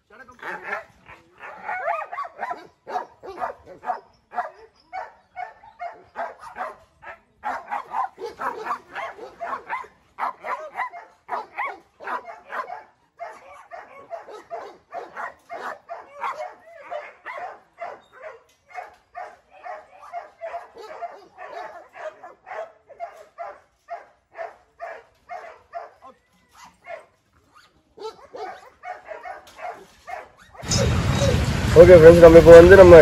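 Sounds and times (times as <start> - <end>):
dog barking rapidly: 1.7 - 26.0, 28.0 - 30.3.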